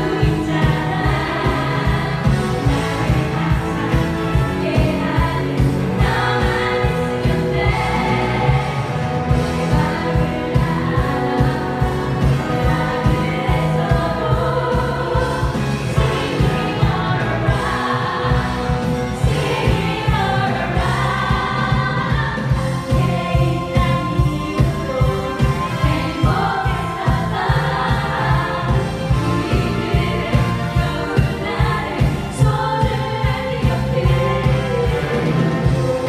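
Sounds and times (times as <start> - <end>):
women singing a pop song: 0.0 - 36.0.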